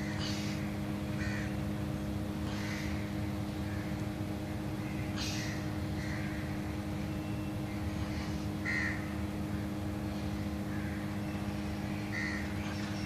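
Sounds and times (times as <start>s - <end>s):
bird harsh calls: 0.0s - 1.6s, 2.4s - 13.0s
steady low hum: 0.0s - 13.0s.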